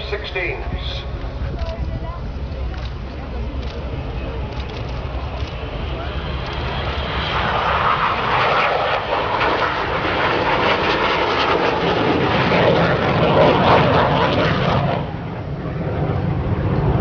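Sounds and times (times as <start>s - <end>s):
jet fighter engine roar: 0.0s - 17.0s.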